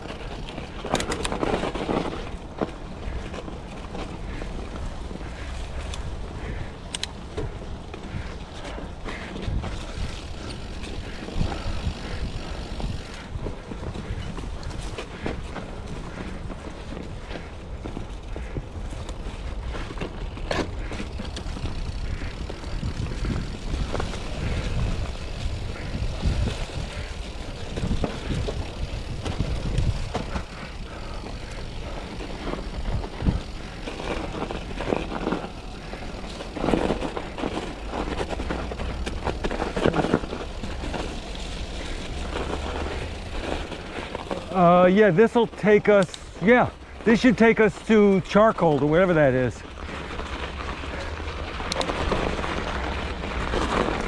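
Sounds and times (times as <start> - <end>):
wind buffeting the microphone: 0.0 - 44.6
bike knocks and rattles: 0.0 - 54.0
bike tyres on muddy trail: 0.0 - 54.0.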